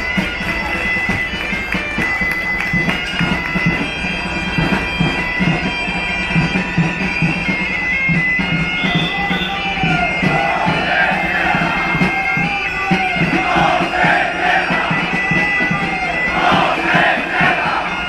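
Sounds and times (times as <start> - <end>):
bagpipes playing melody: 0.0 - 18.0
drum beats: 0.0 - 18.0.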